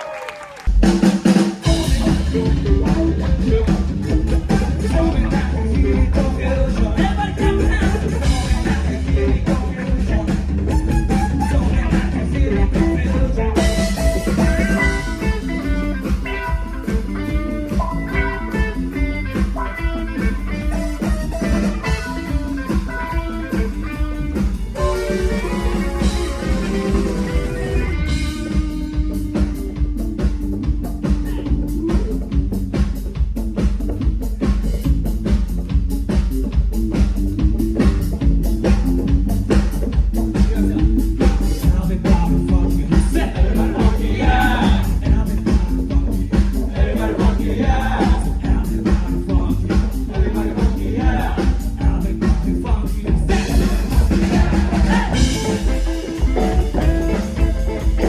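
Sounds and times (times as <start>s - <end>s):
bass guitar: 0.0s - 58.0s
drum kit: 0.0s - 58.0s
electric guitar: 1.6s - 58.0s.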